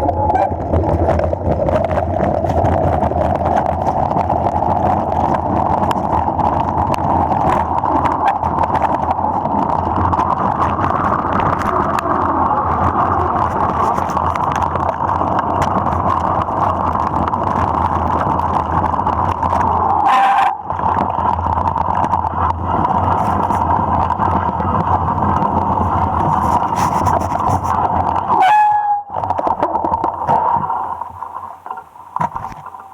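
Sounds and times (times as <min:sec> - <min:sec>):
wet tyres on trail: 0:00.0 - 0:32.9.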